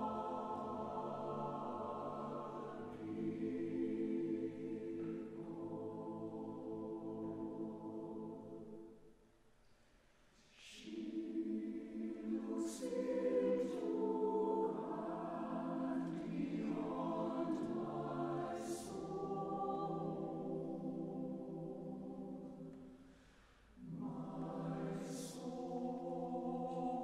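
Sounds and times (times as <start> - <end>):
choir singing: 0.0 - 9.0, 10.6 - 22.9, 23.8 - 27.0.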